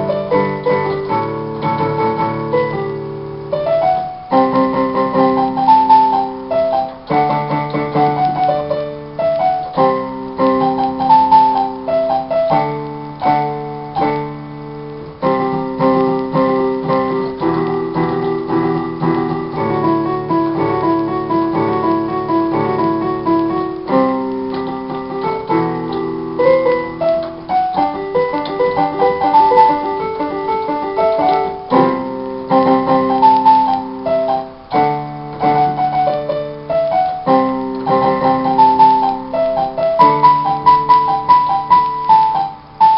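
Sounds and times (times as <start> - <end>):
electronic keyboard piano playing: 0.0 - 42.9.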